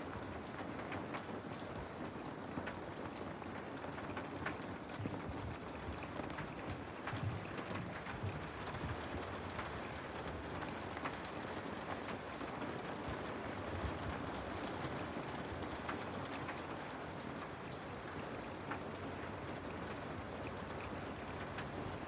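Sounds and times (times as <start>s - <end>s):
rain falling on a window: 0.0s - 22.0s.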